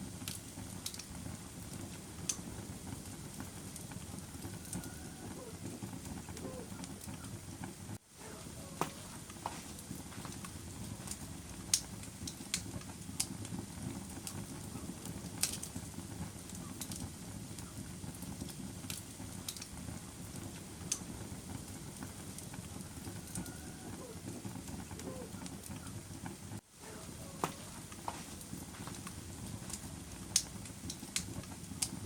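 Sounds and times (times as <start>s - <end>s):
fire crackles and pops: 0.0s - 32.0s
flames rushing: 0.0s - 32.0s.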